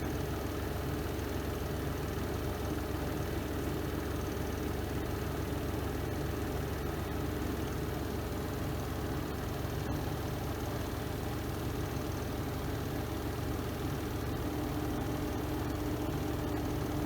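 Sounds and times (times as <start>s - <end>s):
washing machine spin motor humming: 0.0s - 17.0s.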